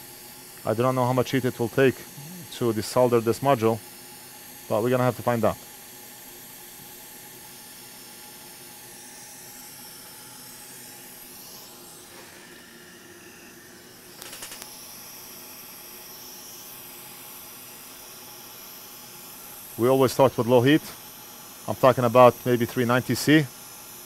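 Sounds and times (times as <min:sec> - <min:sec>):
hot air blower hissing: 0:00.0 - 0:24.0.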